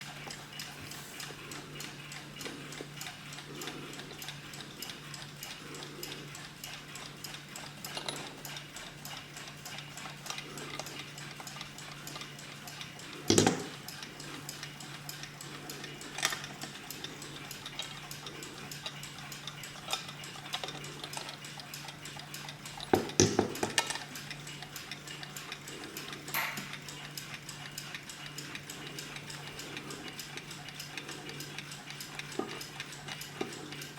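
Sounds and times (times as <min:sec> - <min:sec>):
alarm clock ticking: 0:00.0 - 0:33.9.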